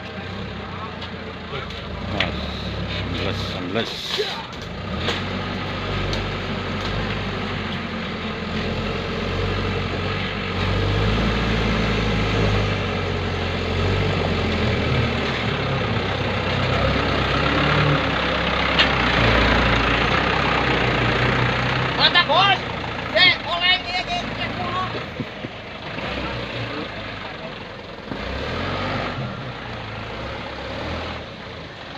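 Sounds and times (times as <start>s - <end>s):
dump truck engine running: 0.0s - 31.9s.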